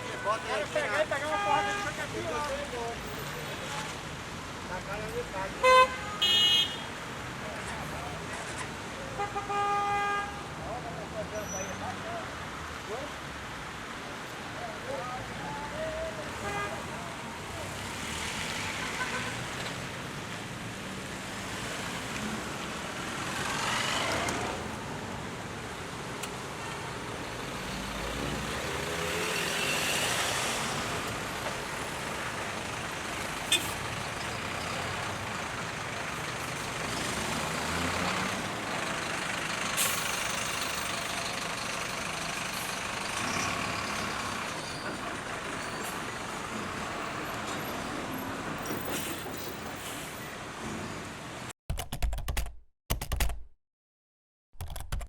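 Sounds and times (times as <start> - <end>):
traffic passing: 0.0 - 51.5.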